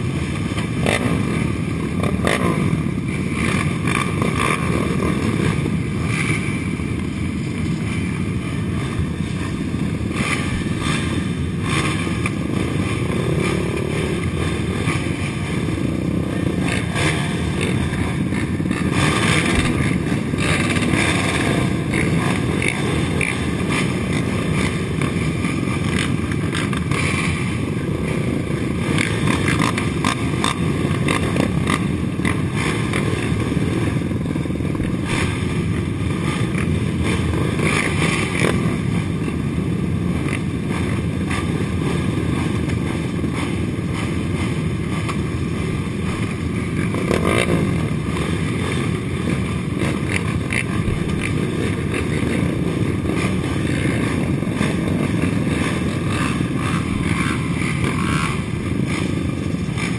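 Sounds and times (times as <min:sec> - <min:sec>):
atv engines idling: 0:00.0 - 0:59.9.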